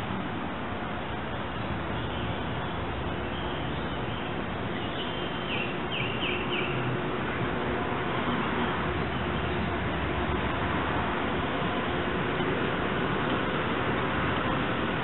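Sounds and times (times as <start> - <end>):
steady outdoor noise: 0.0 - 15.0.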